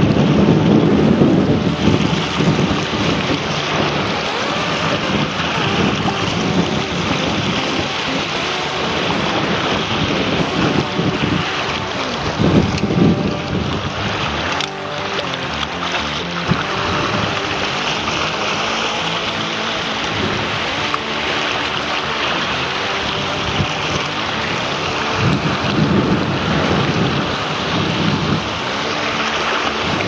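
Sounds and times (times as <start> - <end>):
gusty wind buffeting microphone: 0.0 - 30.0
surf washing around rocks: 0.0 - 30.0.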